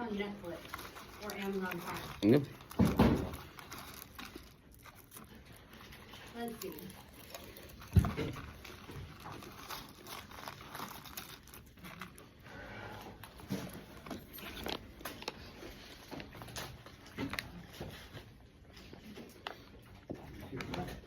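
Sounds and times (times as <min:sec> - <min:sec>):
rustling and crinkling: 0:00.0 - 0:21.0.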